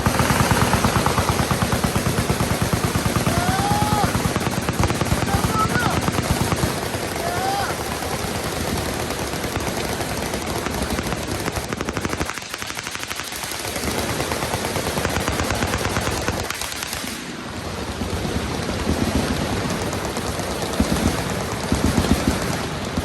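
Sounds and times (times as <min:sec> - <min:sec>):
machine guns firing: 0:00.0 - 0:23.0.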